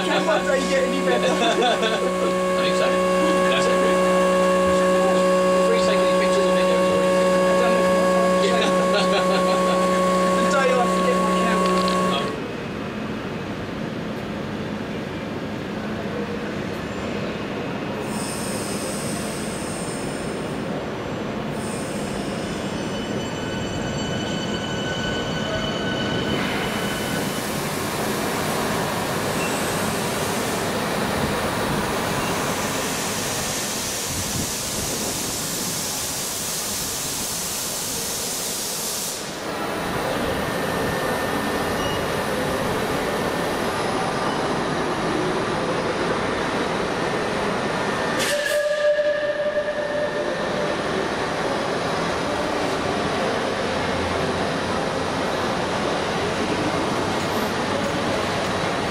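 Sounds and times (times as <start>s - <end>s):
steam locomotive hissing steam: 0.0s - 12.4s, 17.9s - 23.5s, 26.0s - 58.8s.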